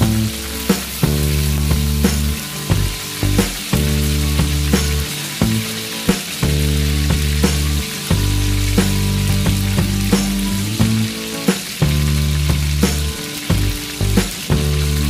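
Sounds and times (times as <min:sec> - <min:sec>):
food sizzling in a pan: 0:00.0 - 0:15.0
music with low notes: 0:00.0 - 0:15.0.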